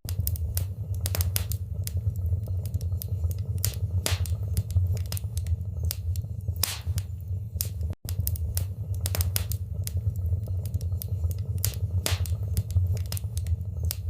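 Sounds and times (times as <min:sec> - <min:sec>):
fire crackling and popping: 0:00.0 - 0:14.0
low rumble of fire: 0:00.1 - 0:14.0.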